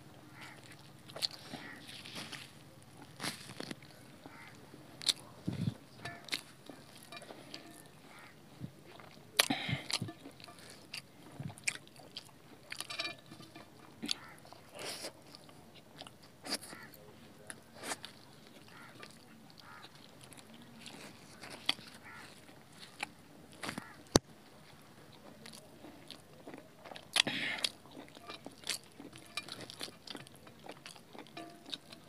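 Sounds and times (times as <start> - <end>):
chewing and lip-smacking: 0.4 - 24.2, 25.1 - 32.0.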